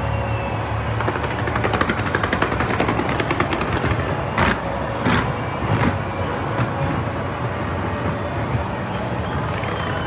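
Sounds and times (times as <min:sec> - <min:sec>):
crackling fireworks pops: 0:00.2 - 0:10.0
loud fireworks bangs: 0:00.7 - 0:10.0.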